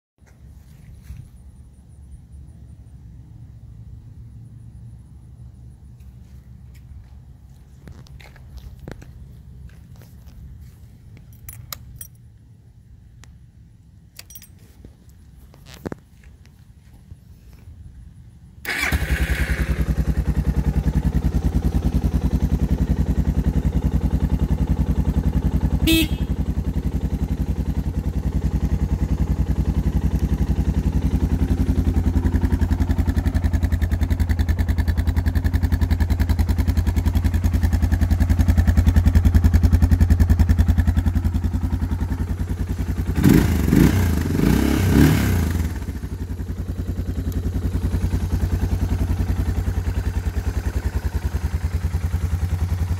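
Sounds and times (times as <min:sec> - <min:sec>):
motorcycle engine idling: 0:00.2 - 0:52.9.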